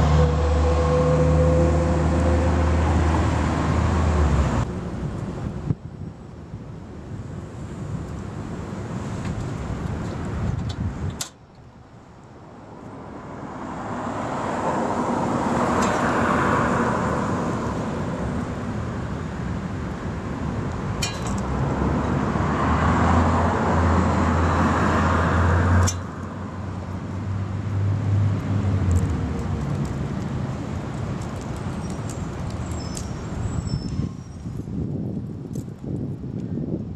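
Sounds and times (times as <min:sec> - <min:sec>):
wind-like rushing noise: 0:00.0 - 0:36.9.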